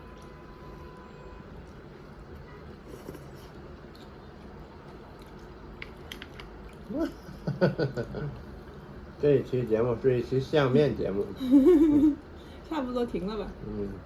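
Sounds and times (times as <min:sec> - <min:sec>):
low steady background noise: 0:00.0 - 0:14.0.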